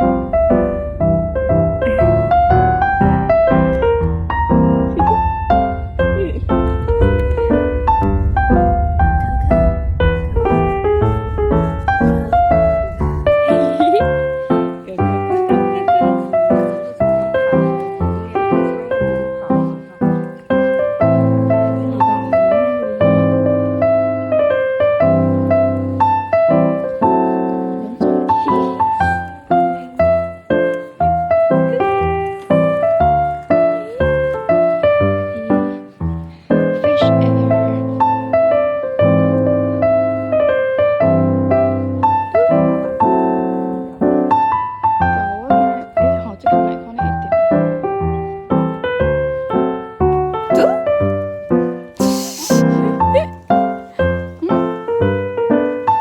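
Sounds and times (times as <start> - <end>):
slow gentle piano music: 0.0 - 56.0.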